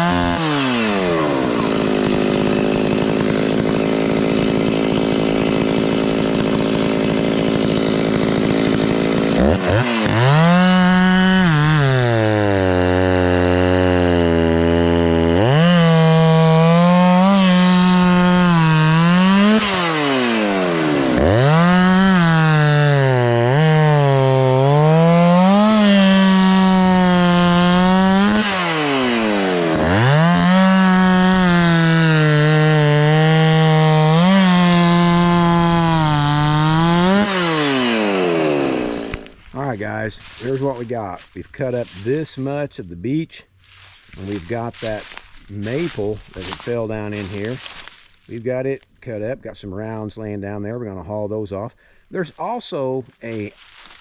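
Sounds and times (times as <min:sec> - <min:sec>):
chainsaw cutting logs: 0:00.0 - 0:42.5, 0:43.6 - 0:48.4, 0:53.3 - 0:54.0.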